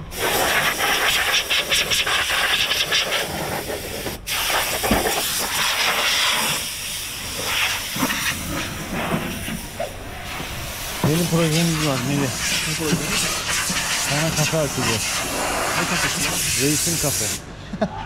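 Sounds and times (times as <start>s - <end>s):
pressure washer spraying: 0.1s - 17.4s.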